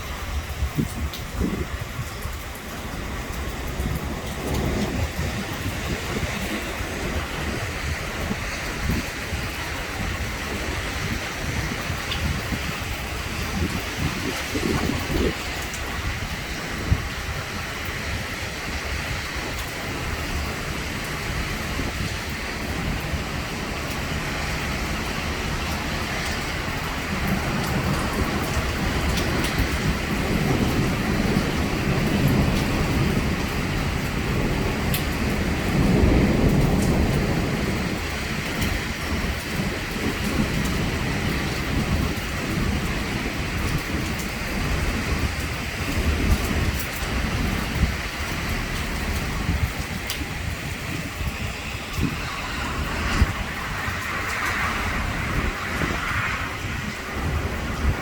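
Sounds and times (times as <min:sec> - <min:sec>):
heavy rain pouring: 0:00.0 - 0:58.0
thunder rumbling: 0:00.0 - 0:58.0
wind gusting on microphone: 0:00.0 - 0:58.0.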